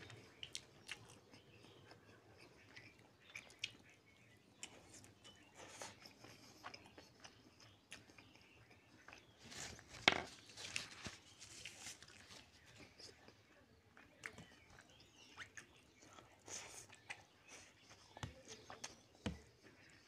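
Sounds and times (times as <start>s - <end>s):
chewing and lip-smacking: 0.0s - 9.9s, 11.6s - 20.0s.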